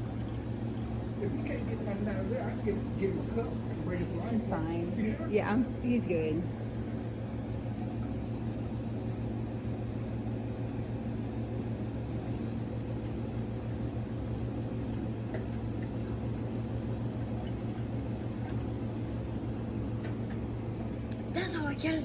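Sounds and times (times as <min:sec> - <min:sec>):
drinking fountain low hum: 0:00.0 - 0:22.0
water flowing faintly: 0:00.0 - 0:22.0.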